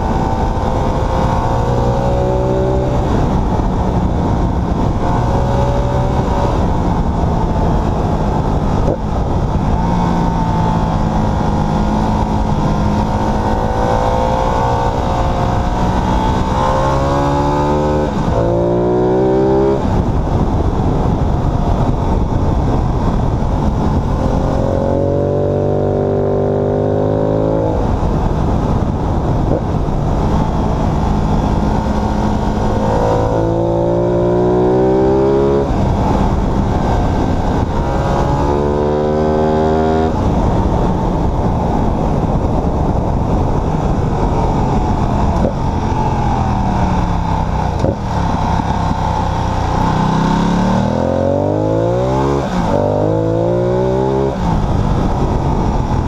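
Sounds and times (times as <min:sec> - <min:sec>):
motorcycle engine accelerating: 0:00.0 - 0:56.0
wind rush: 0:00.0 - 0:56.0.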